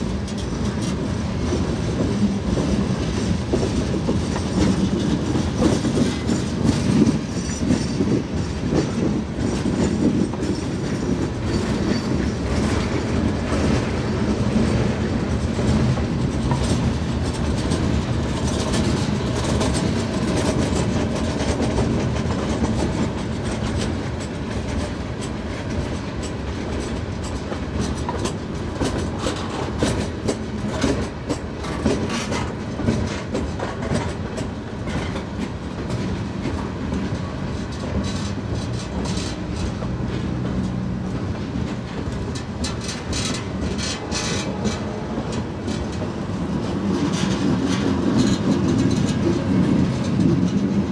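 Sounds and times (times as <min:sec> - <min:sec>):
freight train rolling past: 0:00.0 - 0:50.9
train wheels clattering over rail joints: 0:00.0 - 0:50.9.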